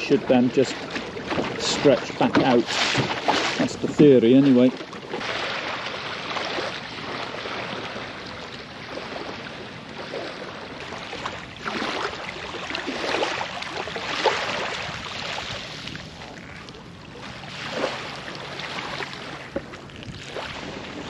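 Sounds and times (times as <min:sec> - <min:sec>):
small waves lapping on shingle: 0:00.0 - 0:21.0.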